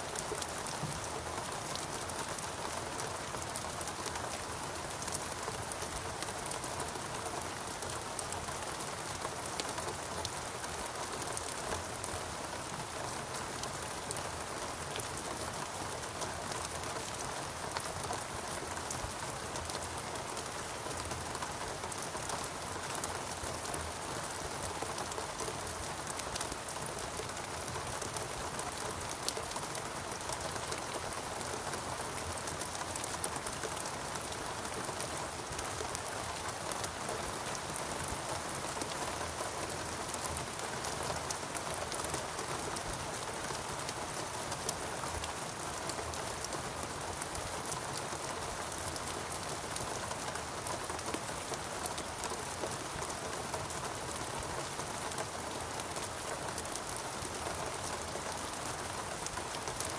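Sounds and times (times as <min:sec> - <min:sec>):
rain pattering on leaves: 0:00.0 - 0:59.9.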